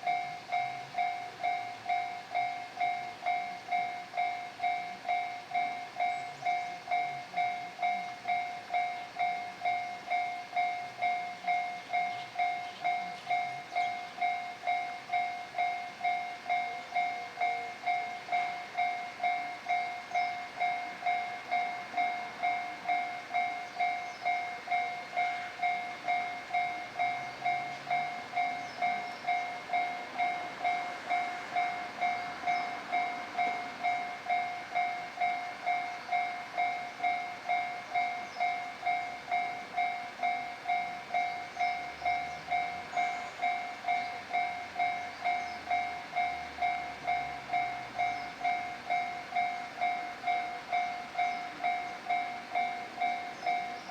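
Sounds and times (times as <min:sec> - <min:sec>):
level-crossing warning bell: 0:00.0 - 0:53.9.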